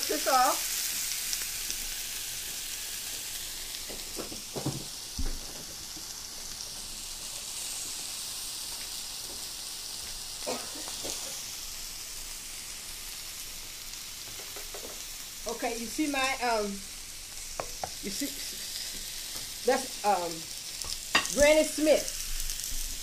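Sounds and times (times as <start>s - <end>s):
meat sizzling on a grill pan: 0.0s - 23.0s.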